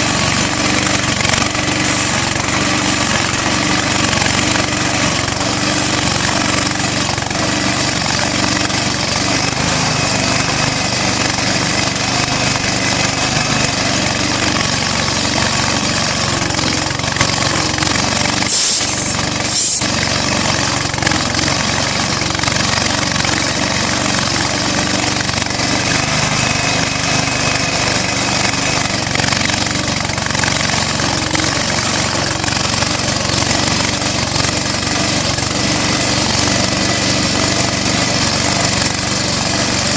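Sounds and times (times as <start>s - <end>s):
flywheel engine running: 0.0s - 39.9s.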